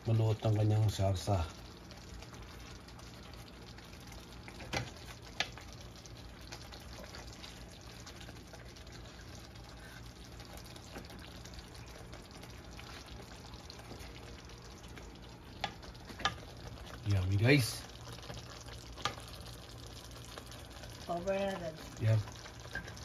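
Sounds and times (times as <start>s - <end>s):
sauce bubbling in skillet: 0.0s - 23.0s.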